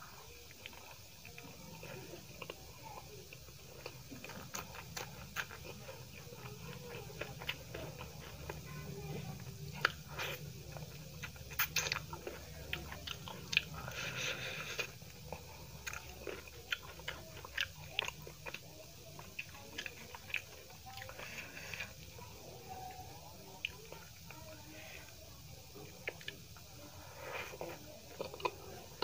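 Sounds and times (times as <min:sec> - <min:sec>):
wet chewing with mouth clicks: 0:00.0 - 0:29.0.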